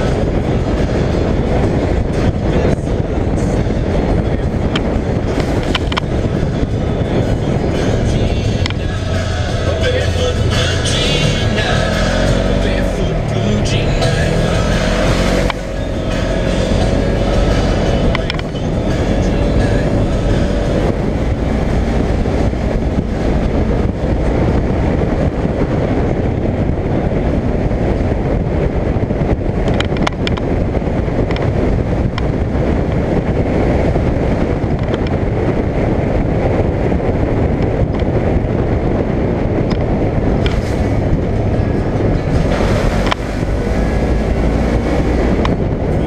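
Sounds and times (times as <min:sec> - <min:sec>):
off-road vehicle engine running: 0:00.0 - 0:46.0
tyre and drivetrain noise: 0:00.0 - 0:46.0
wind buffeting microphone: 0:00.0 - 0:46.0.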